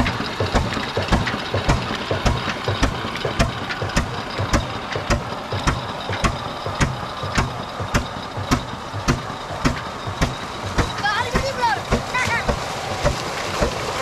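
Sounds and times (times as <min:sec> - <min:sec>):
diesel engine knocking and clattering: 0:00.0 - 0:14.0.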